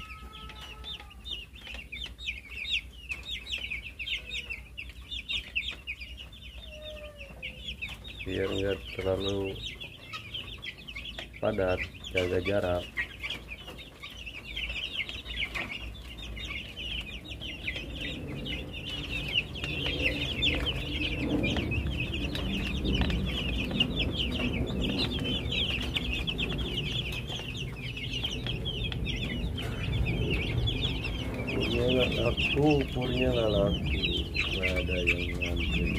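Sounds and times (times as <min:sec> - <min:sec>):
chicks peeping: 0:00.0 - 0:35.9
low steady hum: 0:03.1 - 0:35.9.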